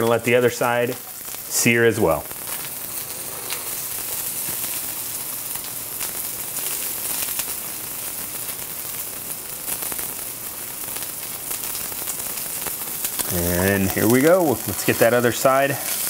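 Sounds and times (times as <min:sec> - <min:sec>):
fish searing in a frying pan: 0:00.0 - 0:16.0.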